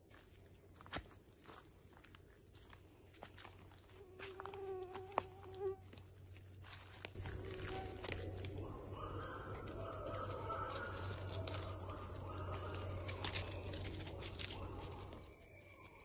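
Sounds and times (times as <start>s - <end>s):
footsteps crunching through dry leaves: 0.0s - 16.0s.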